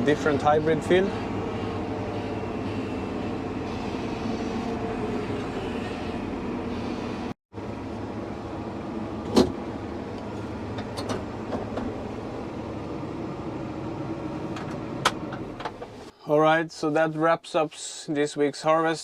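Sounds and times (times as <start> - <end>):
tractor engine running: 0.0 - 16.1.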